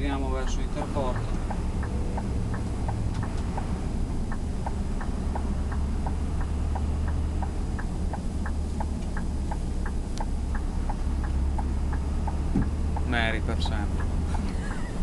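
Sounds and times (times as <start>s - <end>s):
diesel engine droning: 0.0s - 15.0s
turn signal ticking: 0.0s - 15.0s.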